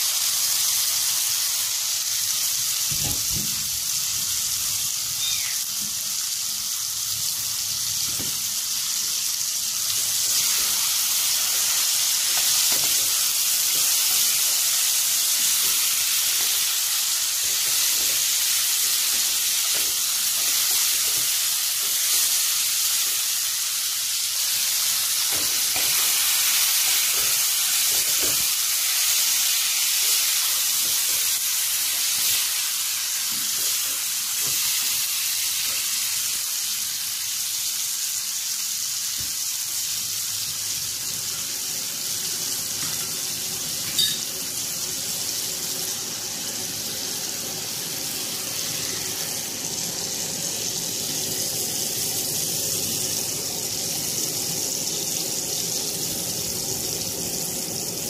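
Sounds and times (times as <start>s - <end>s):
vegetables sizzling in a pan: 0.0s - 58.0s.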